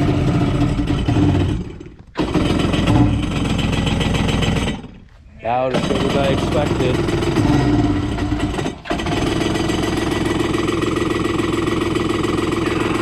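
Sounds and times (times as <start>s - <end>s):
electric starter cranking engine: 0.0s - 5.0s, 5.7s - 13.0s.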